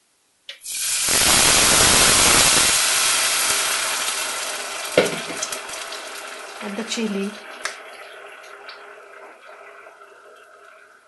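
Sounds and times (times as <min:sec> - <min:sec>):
food sizzling: 0:00.5 - 0:11.0
water splashing into a pot: 0:00.5 - 0:11.0.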